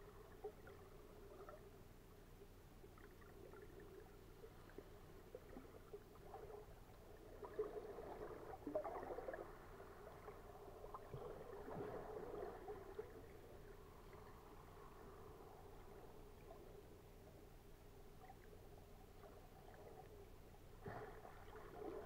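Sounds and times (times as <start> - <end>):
muffled underwater water movement: 0.0 - 22.0.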